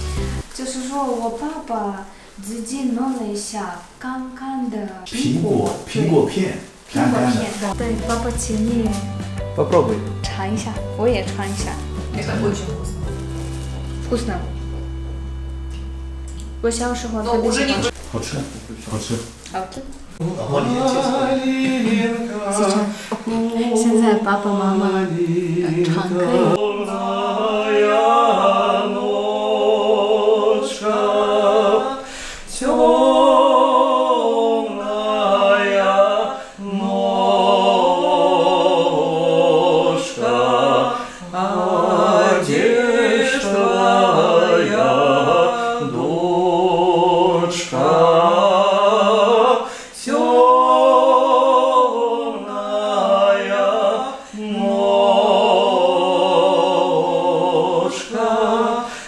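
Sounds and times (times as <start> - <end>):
man and woman singing: 5.0 - 13.2, 17.0 - 18.0, 20.1 - 59.0.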